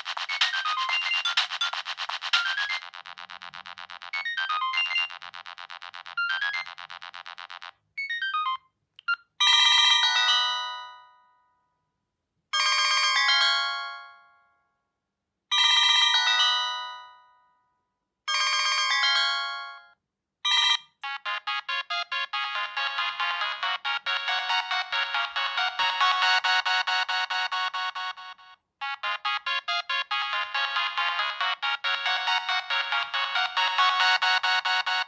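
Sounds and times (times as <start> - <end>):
mobile phone ringtone melody: 0.0 - 11.4, 12.6 - 14.4, 15.5 - 17.4, 18.3 - 35.0.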